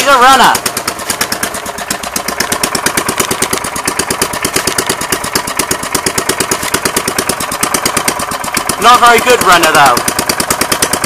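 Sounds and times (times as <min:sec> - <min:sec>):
lawnmower engine popping: 0:00.0 - 0:11.0.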